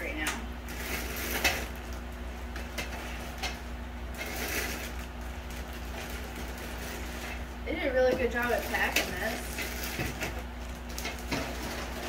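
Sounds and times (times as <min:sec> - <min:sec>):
steady low hum: 0:00.0 - 0:12.0
plastic bags crinkling: 0:00.6 - 0:12.0.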